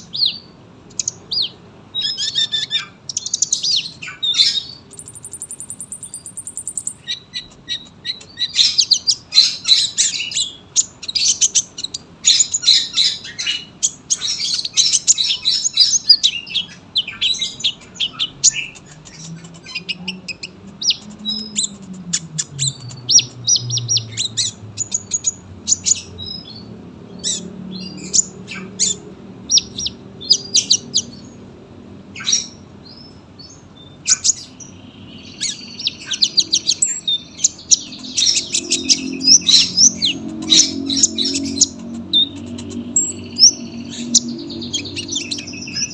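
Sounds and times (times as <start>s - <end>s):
sunbird chirping and trilling: 0.0s - 45.9s.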